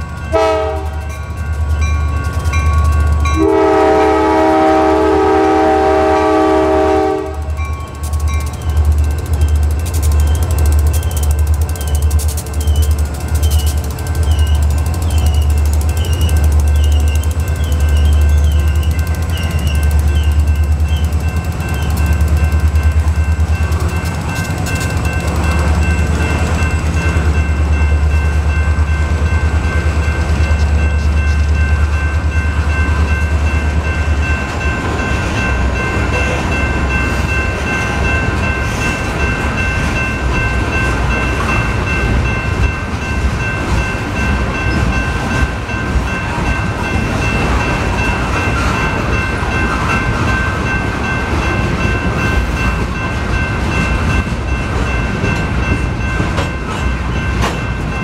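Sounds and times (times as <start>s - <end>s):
crossing warning bell ringing: 0.0s - 58.0s
train wheels clattering on rails: 0.0s - 58.0s.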